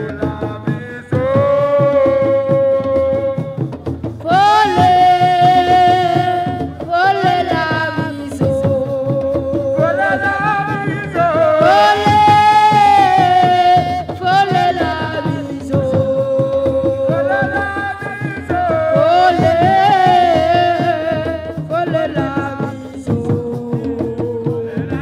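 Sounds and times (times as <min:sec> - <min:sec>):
solo voice singing held notes: 0:00.0 - 0:25.0
steady drum beat: 0:00.0 - 0:25.0.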